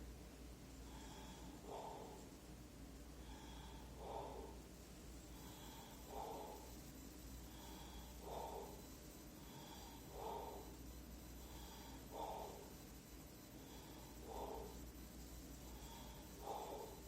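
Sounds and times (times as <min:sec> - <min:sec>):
noisy breaths: 0:00.7 - 0:17.0.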